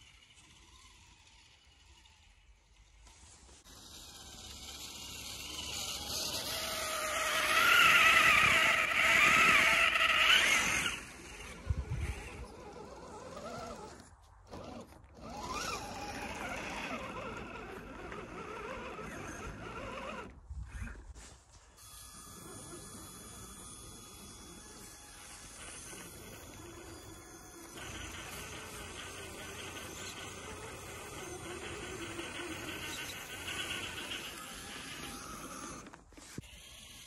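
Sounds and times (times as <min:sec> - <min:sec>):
electric motors whining: 0:00.0 - 0:37.0.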